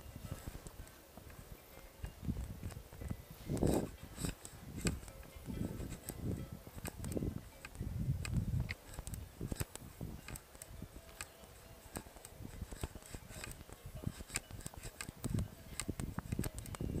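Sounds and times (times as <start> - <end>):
small clicks and rustles: 0.0 - 17.0
wind gusts on microphone: 0.0 - 17.0.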